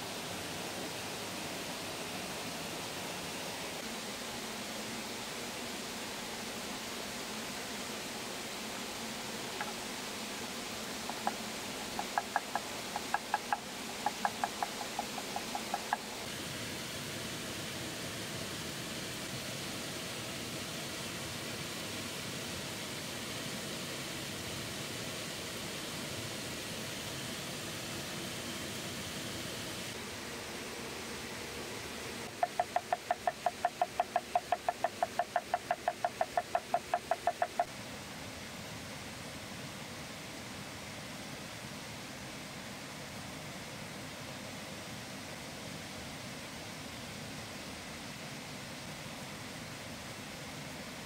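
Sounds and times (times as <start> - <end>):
steady background hiss: 0.0 - 51.0.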